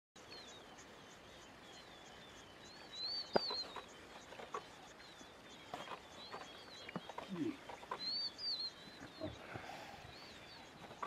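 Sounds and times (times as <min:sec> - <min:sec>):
bird warbling song: 0:00.2 - 0:11.0.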